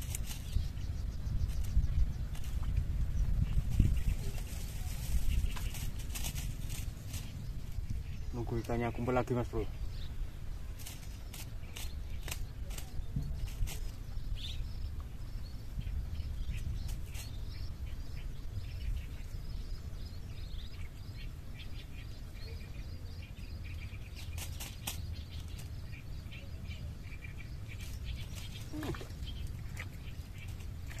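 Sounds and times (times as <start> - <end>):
small birds chirping: 0.0 - 31.0
wind rumble on microphone: 0.0 - 31.0.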